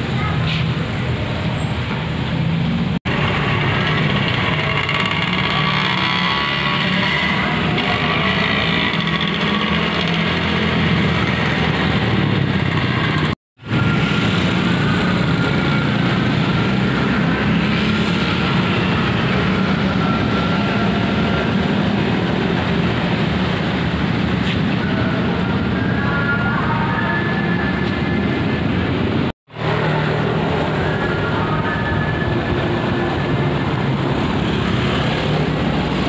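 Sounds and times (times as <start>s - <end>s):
motorbike engines passing: 0.0s - 36.0s.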